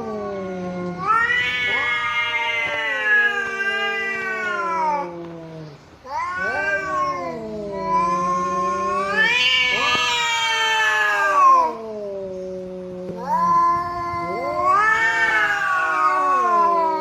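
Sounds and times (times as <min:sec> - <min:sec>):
cats caterwauling: 0:00.0 - 0:17.0.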